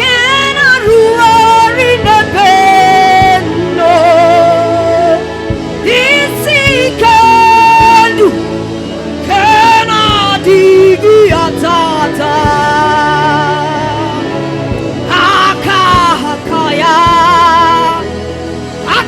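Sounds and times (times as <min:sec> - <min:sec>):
live band backing: 0:00.0 - 0:19.0
person singing with vibrato: 0:00.0 - 0:19.0.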